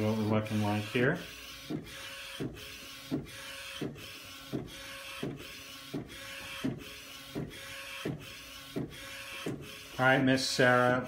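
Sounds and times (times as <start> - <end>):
printer carriage whirring: 0.0 - 11.0.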